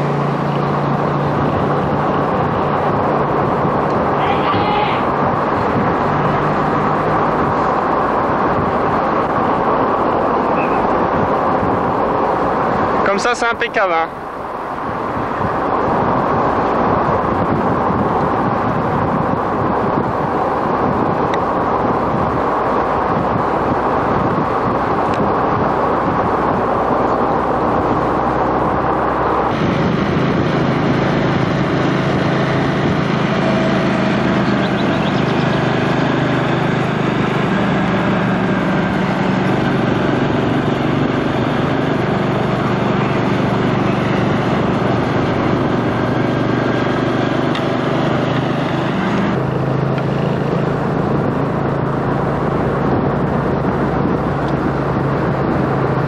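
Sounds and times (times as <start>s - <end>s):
noisy rush: 0.0s - 56.0s
vehicle engine running: 0.0s - 56.0s.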